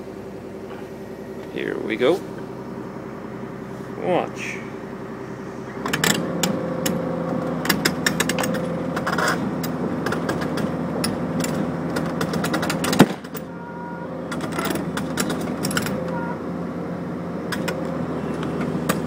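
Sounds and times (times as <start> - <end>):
excavator engine rattling: 0.0 - 19.0.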